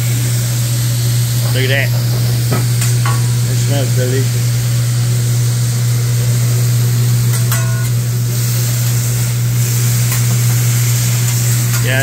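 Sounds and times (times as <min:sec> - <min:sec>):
loud steady low hum: 0:00.0 - 0:12.0
meat and vegetables sizzling on griddle: 0:00.0 - 0:12.0.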